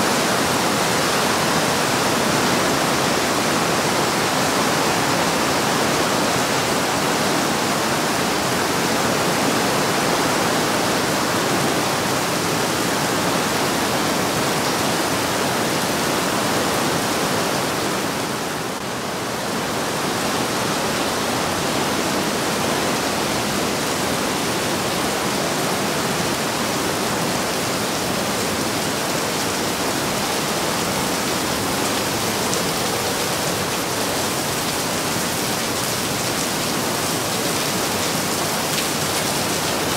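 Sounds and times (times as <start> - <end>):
whitewater rushing through gorge: 0.0 - 39.9.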